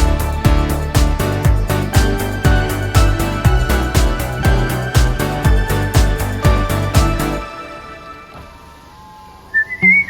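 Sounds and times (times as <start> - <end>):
background music with low thumps: 0.0 - 8.6.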